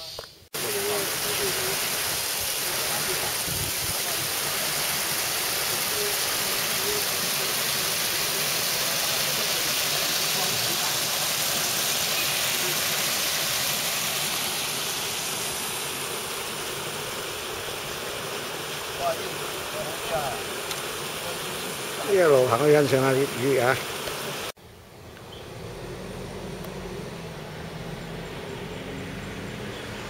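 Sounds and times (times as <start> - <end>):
stream water rushing: 0.6 - 24.6, 25.9 - 30.0.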